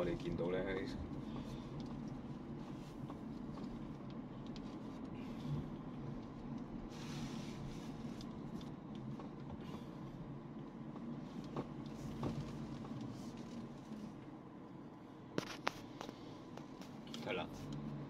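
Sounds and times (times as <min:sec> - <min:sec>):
car engine and road hum: 0:00.0 - 0:18.0.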